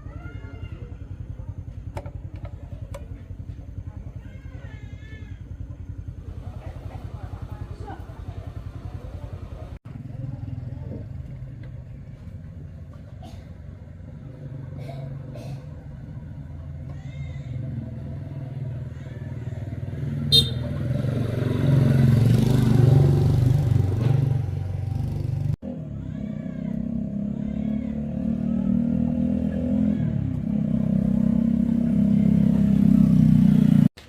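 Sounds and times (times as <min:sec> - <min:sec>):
small motorcycle engine running: 0:00.0 - 0:33.9.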